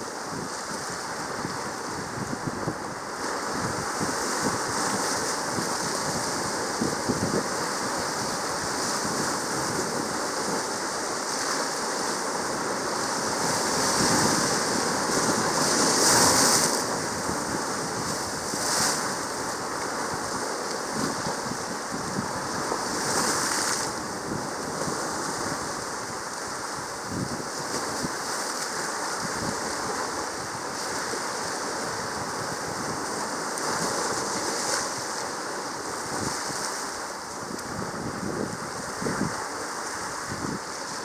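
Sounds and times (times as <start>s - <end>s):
sea water washing: 0.0s - 41.0s.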